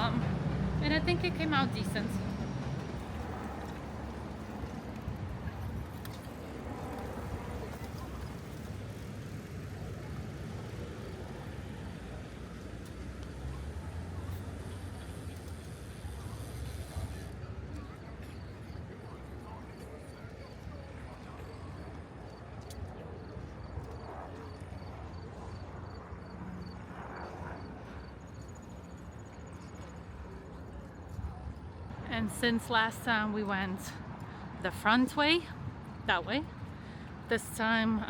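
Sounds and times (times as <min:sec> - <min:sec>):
distant voices murmuring: 0:00.0 - 0:34.6
city traffic rumble: 0:00.0 - 0:38.0.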